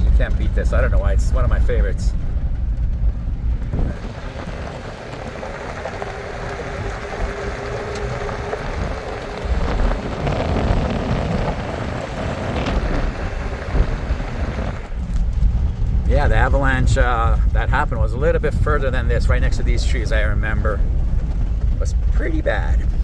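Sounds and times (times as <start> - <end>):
tyre and road noise: 0.0 - 23.0
van rumbling on rough road: 0.0 - 23.0.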